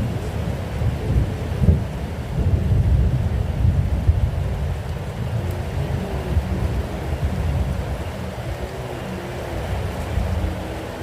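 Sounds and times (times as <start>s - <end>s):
faint drawn-out hum: 0.0s - 11.0s
steady rain falling: 0.0s - 11.0s.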